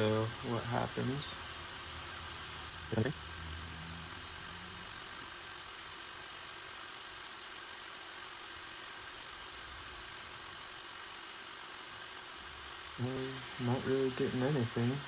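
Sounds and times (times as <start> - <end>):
room tone hiss and hum: 0.0 - 15.0
thin high whine: 0.0 - 15.0.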